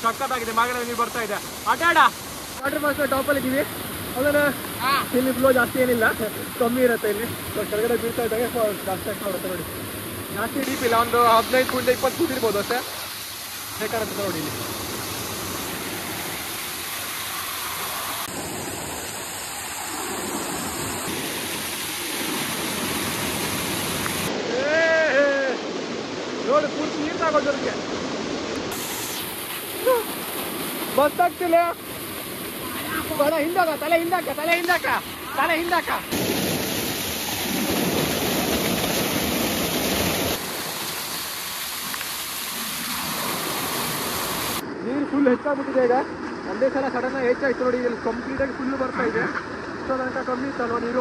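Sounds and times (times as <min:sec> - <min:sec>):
waterfall pouring over rocks: 0:00.0 - 0:27.7, 0:28.7 - 0:44.6.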